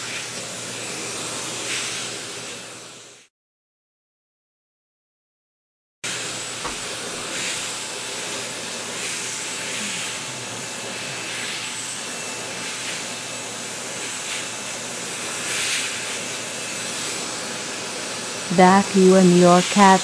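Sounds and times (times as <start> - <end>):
vacuum cleaner running: 0.0 - 3.3, 6.0 - 20.0.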